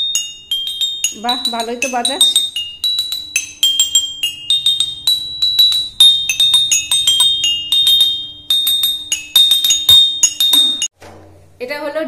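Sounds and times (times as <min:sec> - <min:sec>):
toy xylophone notes: 0:00.0 - 0:10.9.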